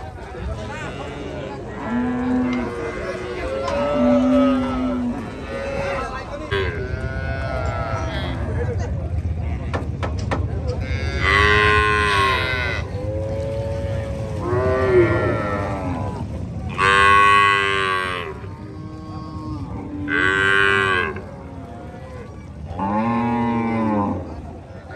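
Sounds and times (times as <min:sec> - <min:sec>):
steady low rumble: 0:00.0 - 0:24.9
cattle mooing: 0:00.8 - 0:08.5, 0:10.7 - 0:24.4.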